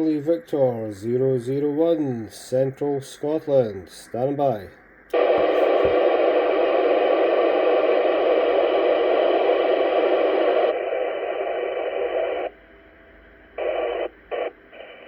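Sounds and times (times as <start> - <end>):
radio static hiss: 0.0 - 12.6, 13.2 - 15.0.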